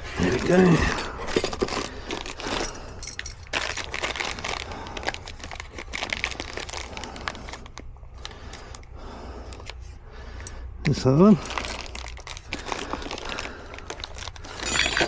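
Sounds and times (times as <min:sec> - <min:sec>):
plastic packaging crinkling: 0:00.0 - 0:08.8, 0:11.4 - 0:15.0.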